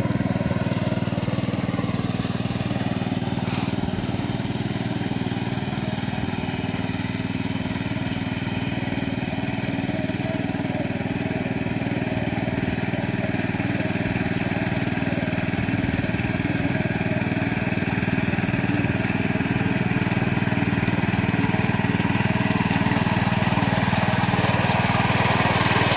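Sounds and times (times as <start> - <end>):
power weeder engine running: 0.0 - 25.9.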